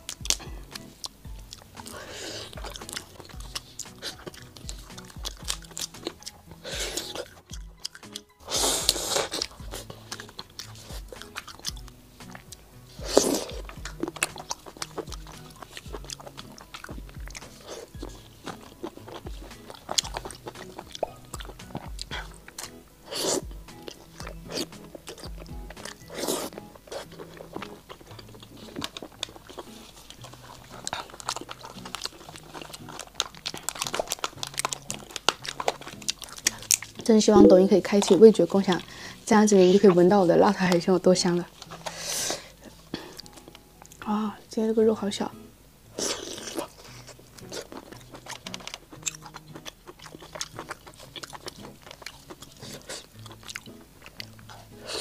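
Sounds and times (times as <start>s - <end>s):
person chewing crunchy food: 0.0s - 44.0s, 45.9s - 55.0s
soft background music: 0.0s - 55.0s.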